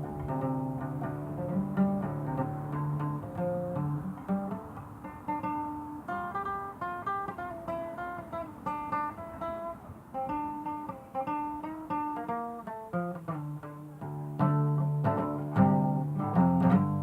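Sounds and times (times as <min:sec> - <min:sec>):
acoustic guitar picked notes: 0:00.0 - 0:17.0.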